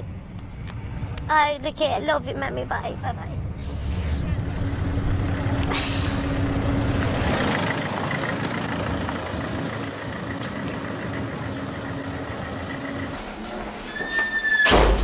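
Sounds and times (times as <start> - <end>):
car engine hum from cabin: 0.0 - 13.9.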